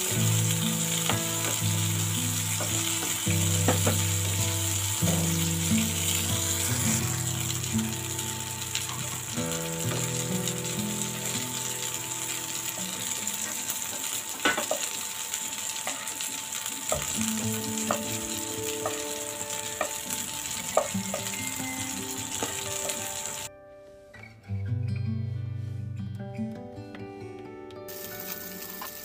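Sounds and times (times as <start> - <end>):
food sizzling in hot oil: 0.0 - 23.5, 27.9 - 29.0
soft background music: 0.0 - 25.1.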